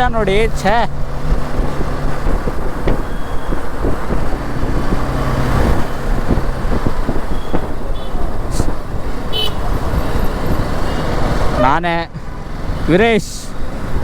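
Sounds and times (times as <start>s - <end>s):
motorcycle engine and wind rumble: 0.0s - 14.0s
surrounding traffic noise: 0.0s - 14.0s.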